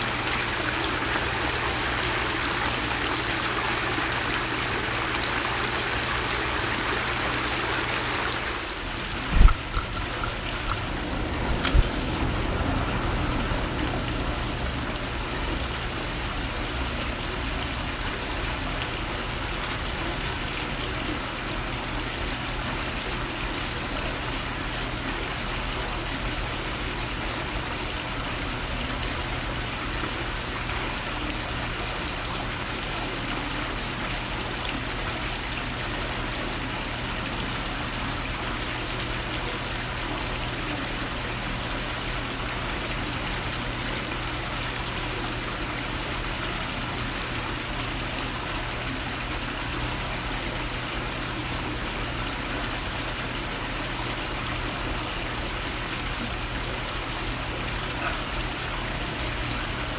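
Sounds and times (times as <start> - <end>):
constant low hum: 0.0 - 59.9.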